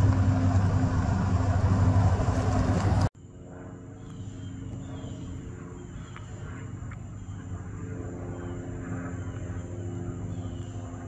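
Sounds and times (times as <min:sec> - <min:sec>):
propeller aircraft flying overhead: 0:00.0 - 0:11.0.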